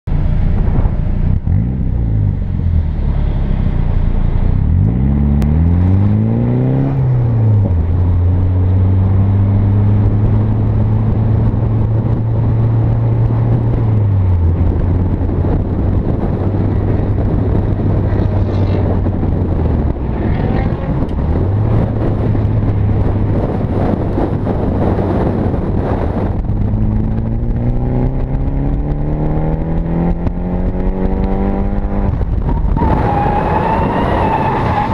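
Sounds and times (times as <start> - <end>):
wind and road noise: 0.0 - 34.9.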